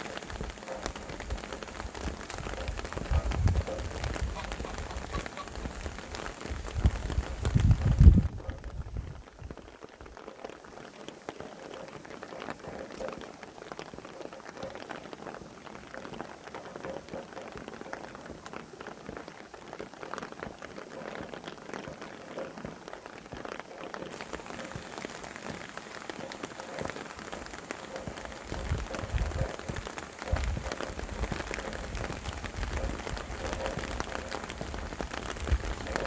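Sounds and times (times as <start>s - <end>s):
raindrops hitting a surface: 0.0s - 36.0s.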